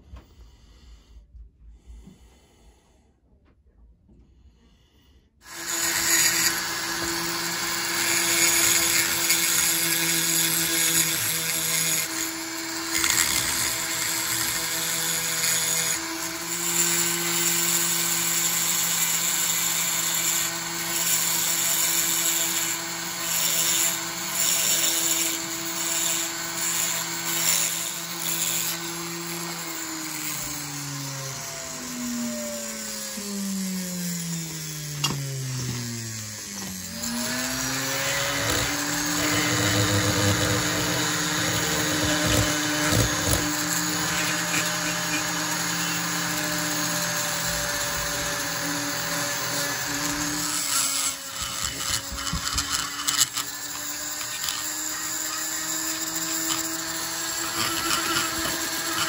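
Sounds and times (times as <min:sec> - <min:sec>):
rotary grinder grinding metal: 0:05.4 - 0:59.0.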